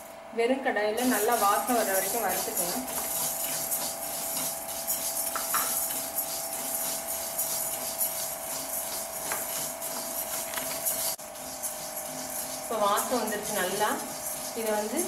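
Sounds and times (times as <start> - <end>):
wooden spoon stirring dry seeds: 1.0 - 15.0.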